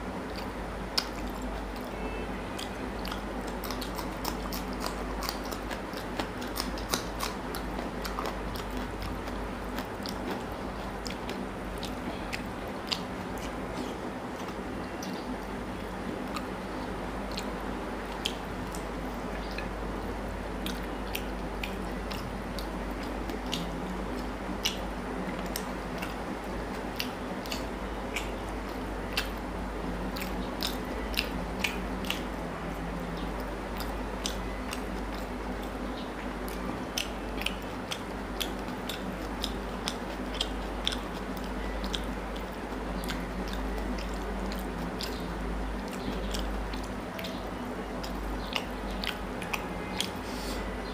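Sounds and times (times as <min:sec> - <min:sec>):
fingers mixing food on a plate: 0:00.0 - 0:50.7
chewing: 0:00.0 - 0:50.9
steady low hum: 0:00.0 - 0:50.9.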